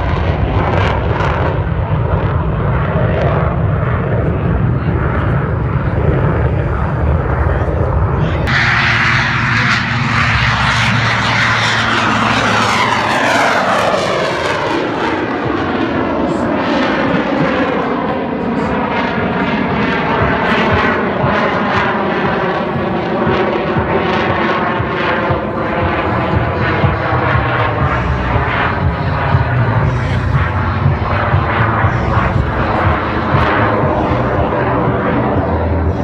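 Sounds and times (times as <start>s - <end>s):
jet aircraft passing overhead: 0.0s - 36.0s.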